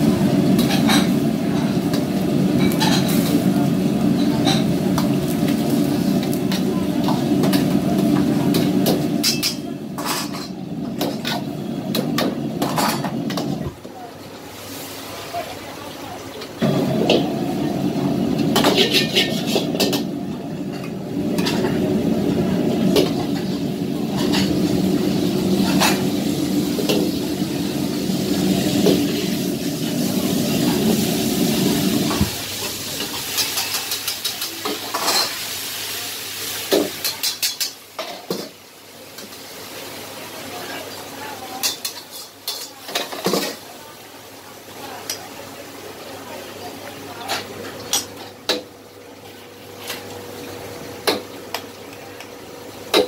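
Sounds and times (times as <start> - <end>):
gas burner roar: 0.0 - 15.4, 16.0 - 43.5.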